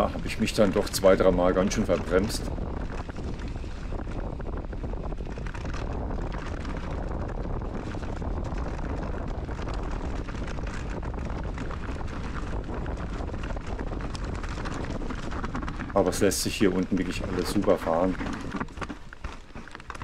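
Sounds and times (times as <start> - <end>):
bike rattles and clicks: 0.0 - 20.0
tyres rumbling on trail: 0.0 - 20.0
wind on microphone: 0.0 - 20.0.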